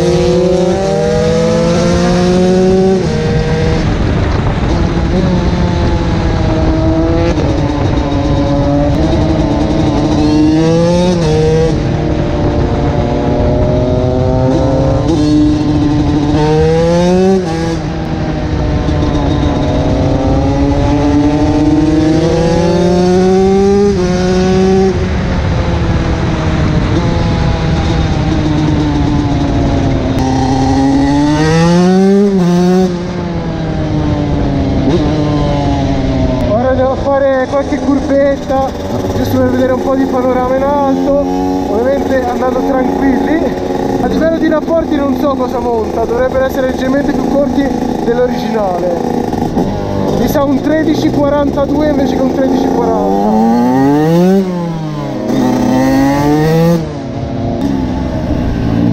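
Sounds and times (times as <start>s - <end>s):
motorcycle engine revving: 0.0s - 58.9s
wind noise: 0.0s - 58.9s.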